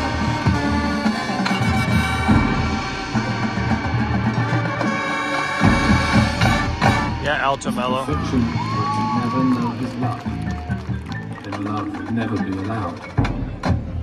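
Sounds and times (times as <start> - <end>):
marching band playing chords: 0.0 - 14.0.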